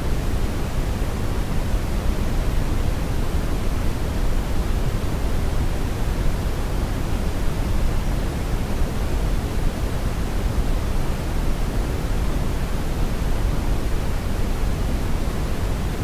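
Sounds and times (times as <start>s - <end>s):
brown noise rumbling hiss: 0.0s - 16.0s.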